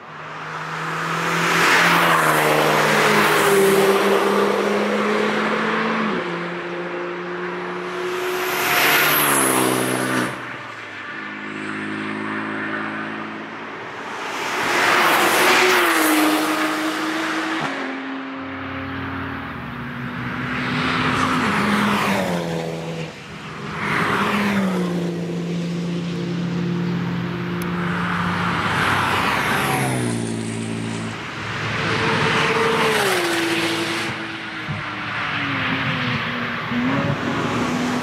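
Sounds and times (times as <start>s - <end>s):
race cars passing by: 0.0s - 38.0s.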